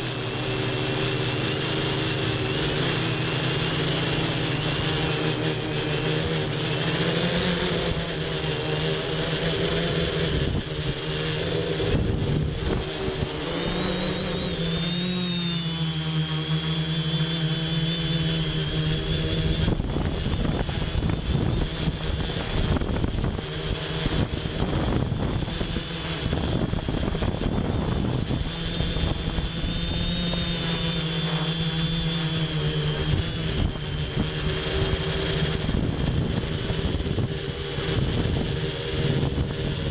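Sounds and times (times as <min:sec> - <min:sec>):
quadcopter motors whining: 0:00.0 - 0:39.9
wind rushing over microphone: 0:03.2 - 0:15.7, 0:16.8 - 0:39.9.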